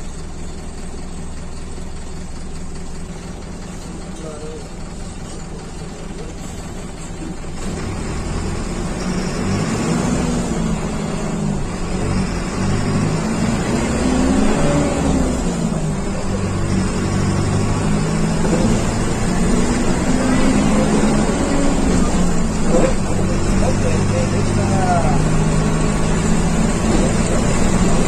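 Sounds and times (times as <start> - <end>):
bus diesel engine accelerating: 0.0 - 28.0.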